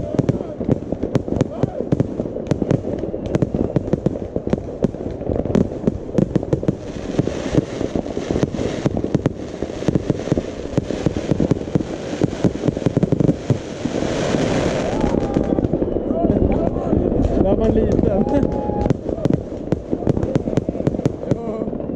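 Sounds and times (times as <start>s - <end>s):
fireworks bangs and cracks: 0.0s - 21.9s.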